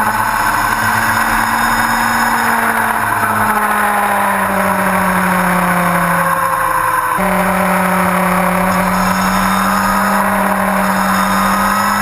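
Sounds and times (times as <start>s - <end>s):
motorcycle engine at speed: 0.0s - 12.0s
wind and road noise: 0.0s - 12.0s.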